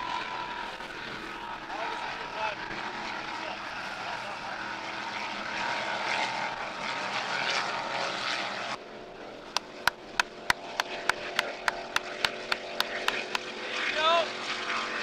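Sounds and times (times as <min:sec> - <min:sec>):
powerboat engines at speed: 0:00.0 - 0:15.0.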